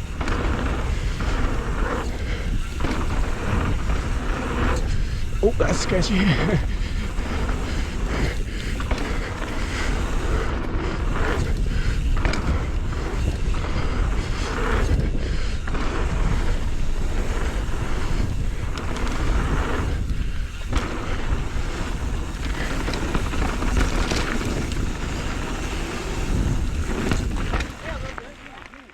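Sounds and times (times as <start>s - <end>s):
wind buffeting microphone: 0.0s - 28.2s
bike rattling: 0.0s - 28.9s
bike tyre rumble on dirt: 0.0s - 28.9s.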